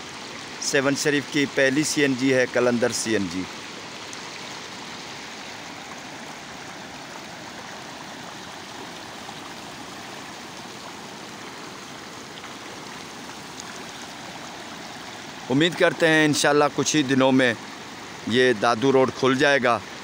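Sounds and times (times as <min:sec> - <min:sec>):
floodwater flowing over road: 0:00.0 - 0:20.0.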